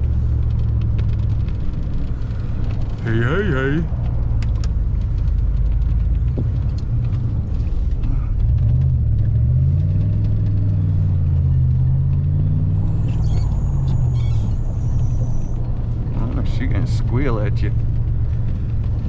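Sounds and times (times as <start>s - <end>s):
truck engine from inside cab: 0.0s - 19.0s.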